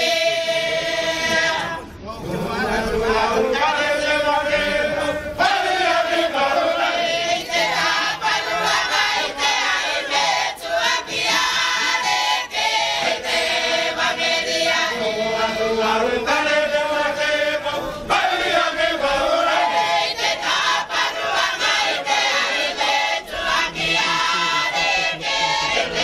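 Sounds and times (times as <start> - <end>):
mixed choir singing: 0.0 - 26.0.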